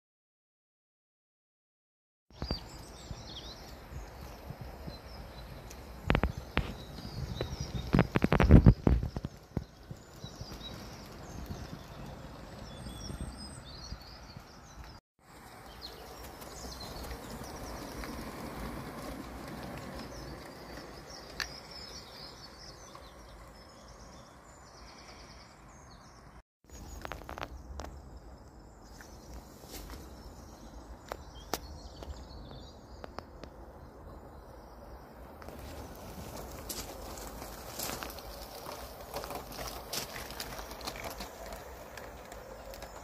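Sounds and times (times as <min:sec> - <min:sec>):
small birds chirping: 0:02.3 - 0:43.0
low rumble of wind: 0:02.4 - 0:43.0.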